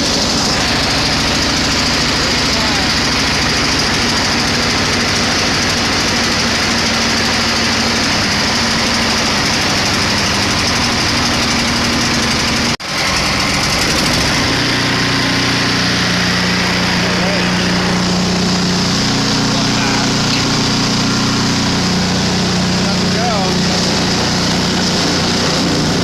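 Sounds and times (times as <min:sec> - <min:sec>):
snowblower engine running: 0:00.0 - 0:26.0.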